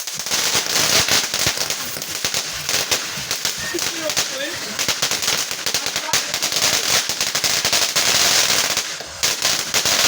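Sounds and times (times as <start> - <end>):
fireworks crackling: 0.0 - 10.0.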